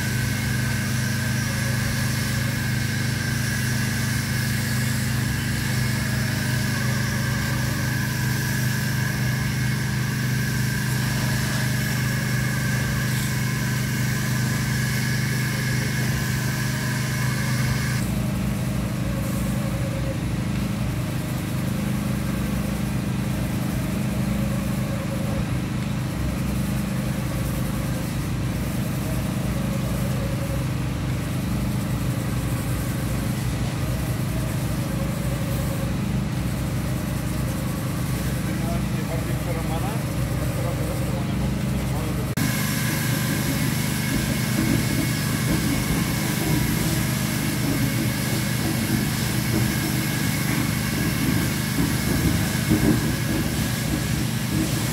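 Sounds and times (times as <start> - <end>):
construction machinery humming: 0.0 - 54.9.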